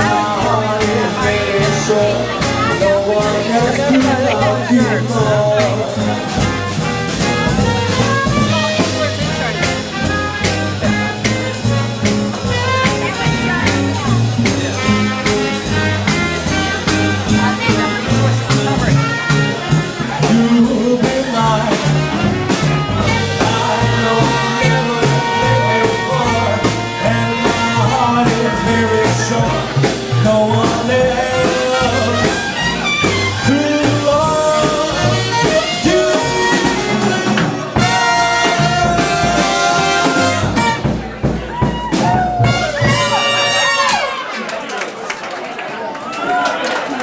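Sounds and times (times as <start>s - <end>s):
stepping bass line: 0.0s - 44.0s
jazz band playing: 0.0s - 44.8s.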